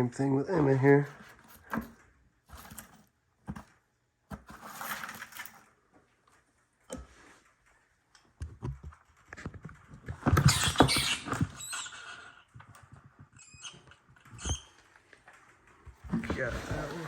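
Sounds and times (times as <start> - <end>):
rustling: 0.6 - 8.1, 8.9 - 17.0.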